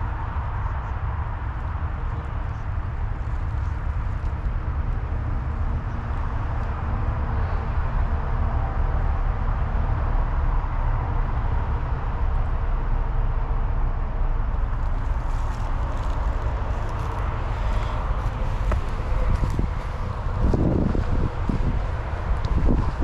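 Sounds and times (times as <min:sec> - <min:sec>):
mountain bike tyre and drivetrain noise: 0:00.0 - 0:23.0
wind rumble on microphone: 0:00.0 - 0:23.0.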